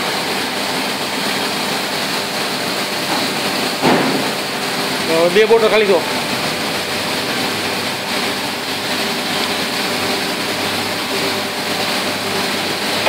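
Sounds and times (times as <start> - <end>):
bottle washing machine running: 0.0 - 13.0.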